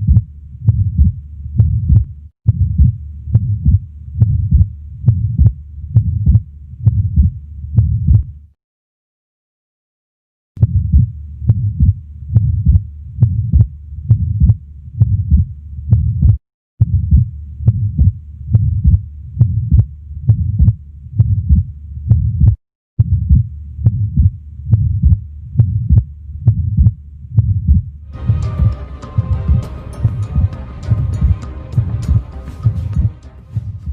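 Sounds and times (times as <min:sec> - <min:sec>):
heart murmur: 0:00.0 - 0:08.3, 0:10.6 - 0:27.9, 0:32.1 - 0:33.9
heartbeat through stethoscope: 0:00.0 - 0:08.4, 0:10.6 - 0:33.9.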